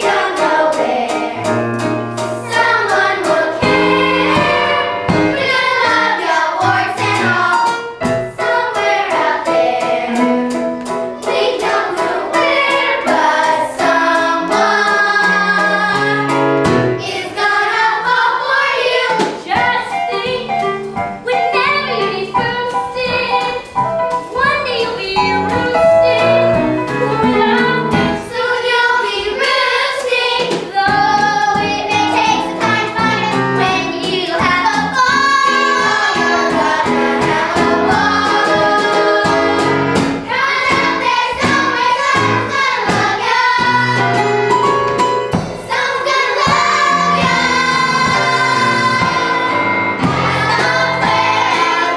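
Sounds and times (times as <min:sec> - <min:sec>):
children singing: 0:00.0 - 0:10.6, 0:11.2 - 0:20.6, 0:24.3 - 0:44.7, 0:45.4 - 0:51.9
instrumental accompaniment: 0:00.0 - 0:51.9.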